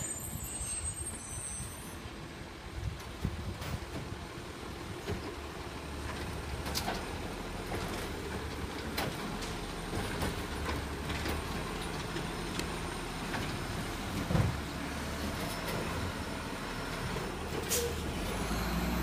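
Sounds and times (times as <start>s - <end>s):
diesel truck engine running: 2.5s - 19.0s.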